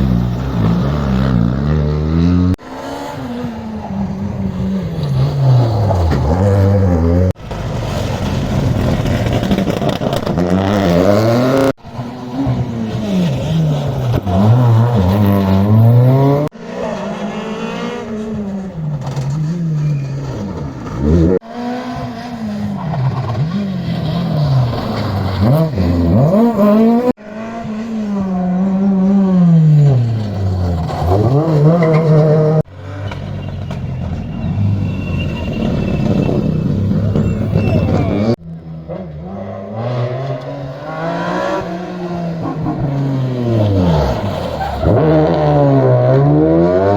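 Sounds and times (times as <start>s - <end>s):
rally car engines revving: 0.0s - 46.9s.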